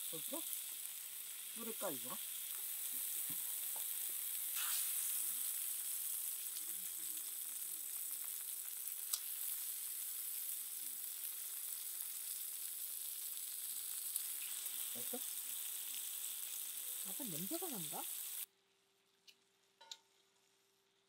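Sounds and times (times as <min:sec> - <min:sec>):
steak sizzling in a skillet: 0:00.0 - 0:18.5.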